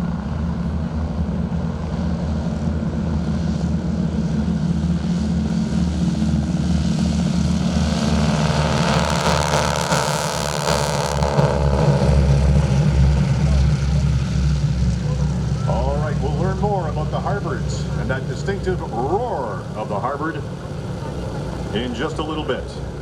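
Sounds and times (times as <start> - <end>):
approaching aircraft engine: 0.0 - 23.0
propeller aircraft engine drone: 0.0 - 23.0.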